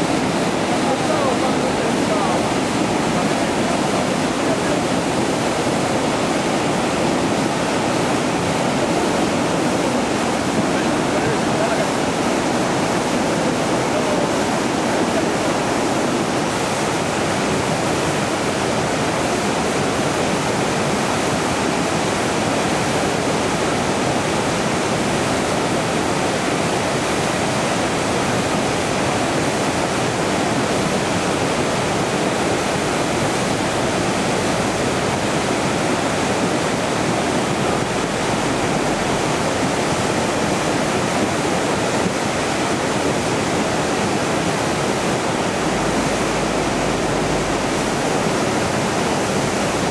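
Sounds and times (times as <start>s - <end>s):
river rushing: 0.0s - 49.9s.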